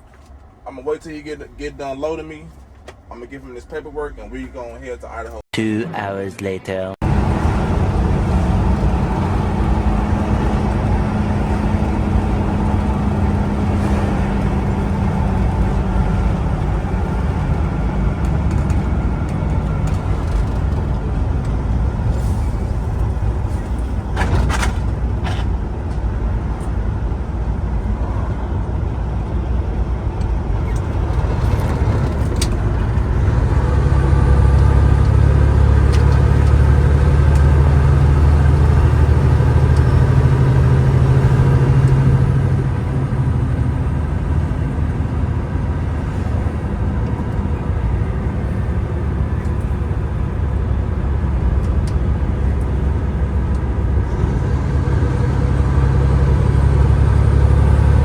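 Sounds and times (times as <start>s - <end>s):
truck diesel engine drone: 7.0s - 58.0s.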